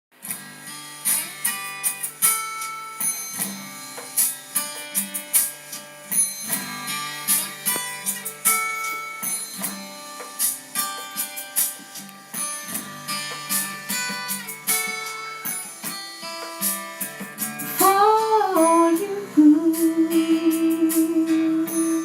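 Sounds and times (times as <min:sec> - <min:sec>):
guitar picking notes: 0:00.2 - 0:22.0.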